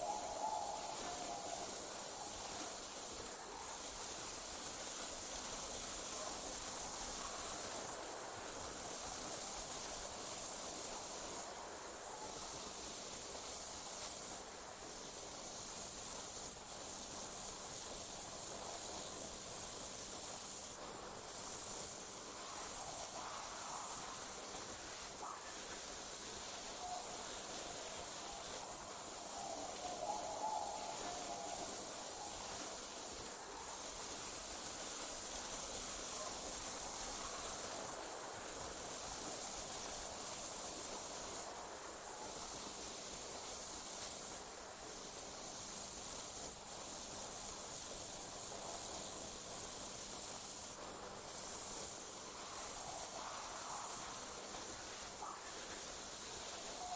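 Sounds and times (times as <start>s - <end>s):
crickets trilling: 0.0s - 11.5s, 12.1s - 56.9s.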